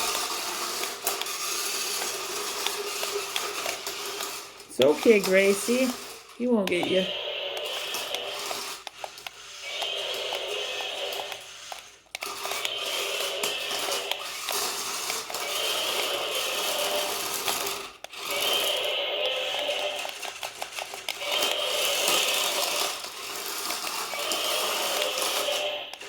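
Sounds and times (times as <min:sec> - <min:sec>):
toy motor whirring and rattling: 0:00.0 - 0:26.0.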